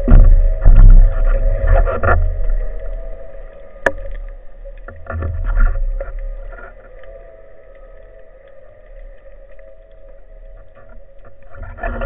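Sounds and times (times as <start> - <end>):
underwater rumbling water movement: 0.0 - 12.0.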